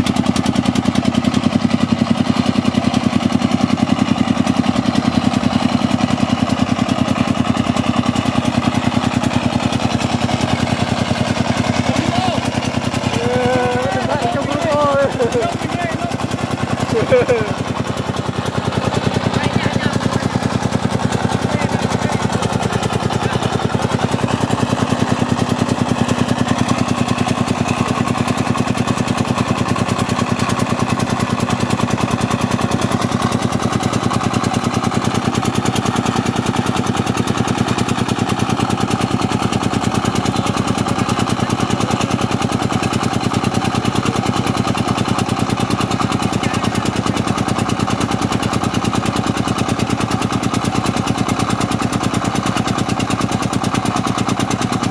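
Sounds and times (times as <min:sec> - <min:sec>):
single-cylinder diesel engine running: 0:00.0 - 0:54.9.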